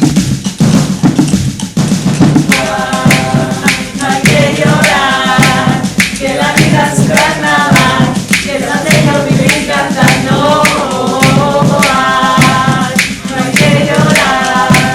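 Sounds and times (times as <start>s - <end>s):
percussion on household objects: 0.0s - 14.9s
voices singing together: 1.8s - 14.9s.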